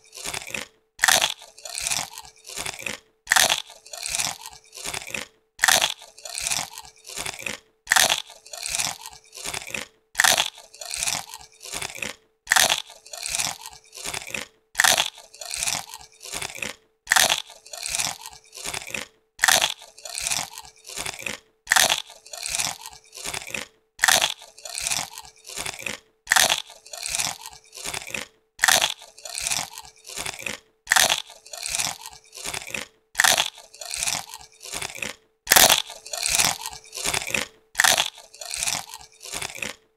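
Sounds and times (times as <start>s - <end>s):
potato chips crunching: 0.0s - 39.9s.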